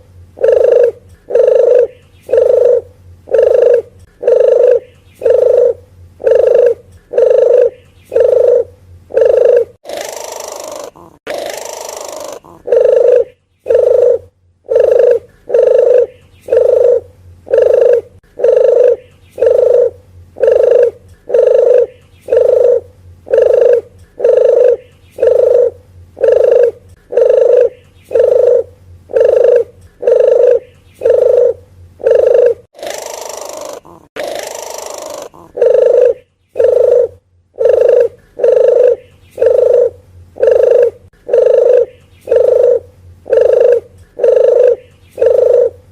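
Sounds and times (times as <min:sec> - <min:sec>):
dove cooing: 0:00.0 - 0:45.9
hoarse dove call: 0:00.4 - 0:45.9.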